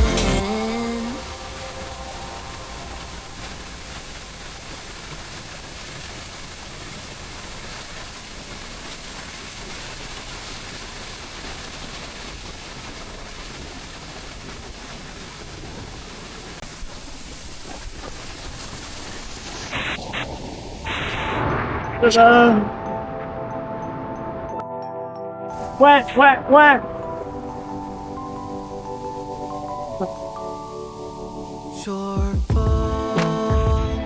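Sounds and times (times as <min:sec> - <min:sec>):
waterfall rushing: 0:00.0 - 0:24.6, 0:25.5 - 0:34.0.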